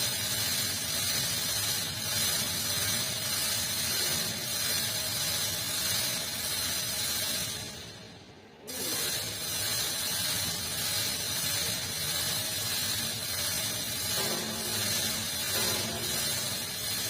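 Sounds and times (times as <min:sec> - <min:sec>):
machinery running with hiss: 0:00.0 - 0:17.0.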